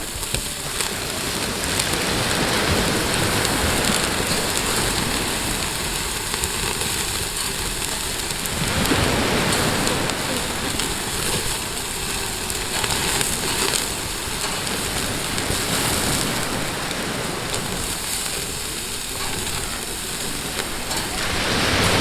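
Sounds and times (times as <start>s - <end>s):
pork sizzling on a grill: 0.0s - 22.0s.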